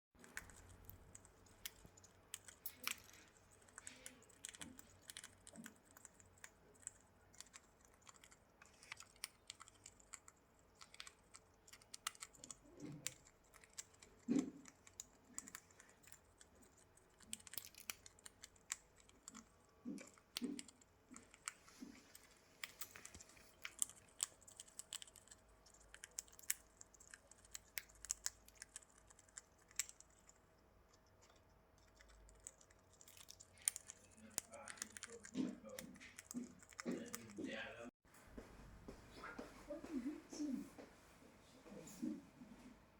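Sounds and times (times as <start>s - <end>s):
parrots cracking seeds: 0.2s - 37.7s.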